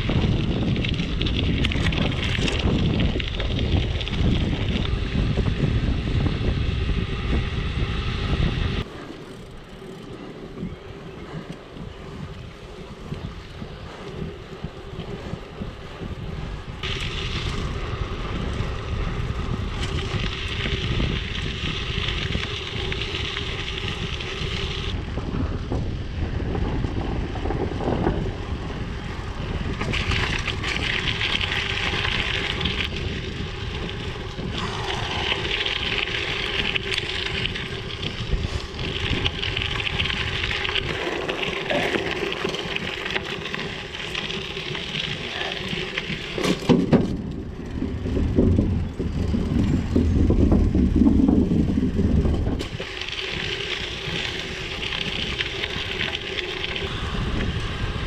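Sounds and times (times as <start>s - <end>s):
bike tyres crunching on gravel: 0.0s - 58.0s
wind on microphone: 0.0s - 58.0s.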